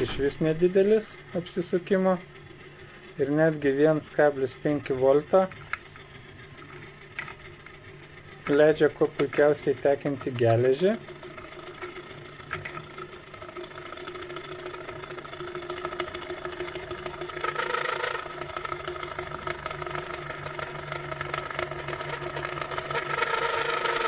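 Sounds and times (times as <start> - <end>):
faint rattle: 0.0 - 24.0
small motor humming: 0.0 - 24.0.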